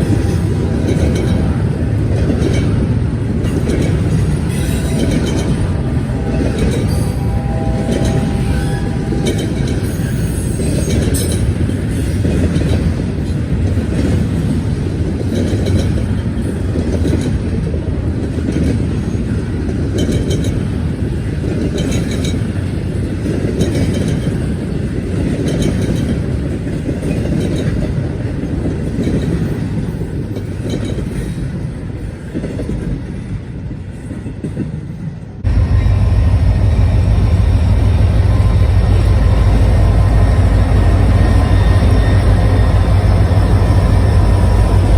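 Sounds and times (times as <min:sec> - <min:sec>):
freight train rumbling: 0:00.0 - 0:44.9.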